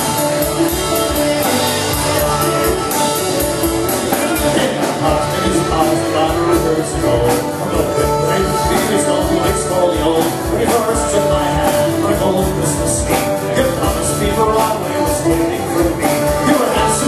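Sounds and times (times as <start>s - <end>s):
accordion: 0.0s - 17.0s
live band playing: 0.0s - 17.0s
steady drum beat: 0.0s - 17.0s.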